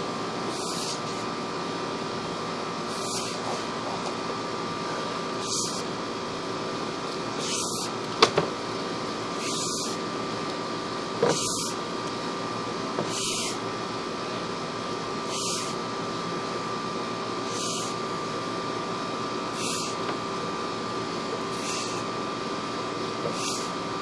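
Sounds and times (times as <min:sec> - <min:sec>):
camera rig hum and hiss: 0:00.0 - 0:10.6, 0:11.2 - 0:24.0.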